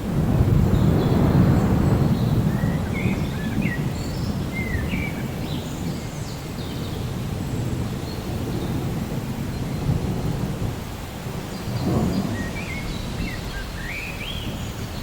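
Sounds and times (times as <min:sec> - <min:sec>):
low rolling thunder: 0:00.0 - 0:15.0
steady rain: 0:00.0 - 0:15.0.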